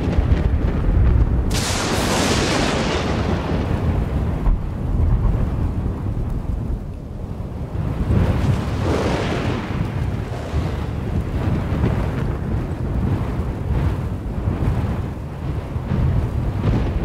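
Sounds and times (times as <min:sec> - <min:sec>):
rolling thunder: 0:00.0 - 0:17.0.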